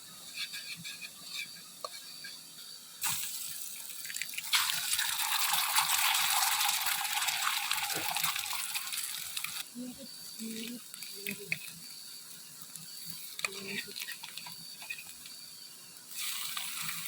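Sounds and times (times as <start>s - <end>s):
high insect calls: 0.0s - 17.0s
heavy rain hiss: 3.0s - 17.0s.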